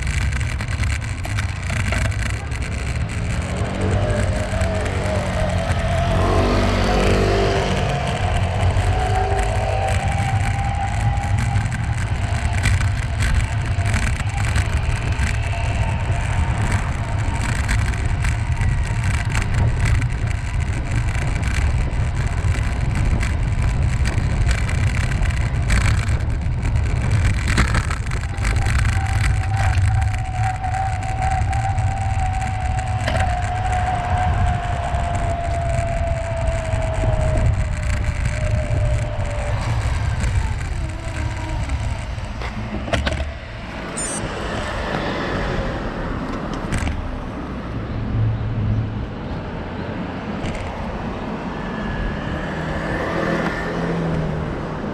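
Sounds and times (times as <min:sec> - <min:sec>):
rolling noise: 0:00.0 - 0:47.2
wind rumble on microphone: 0:00.0 - 0:54.9.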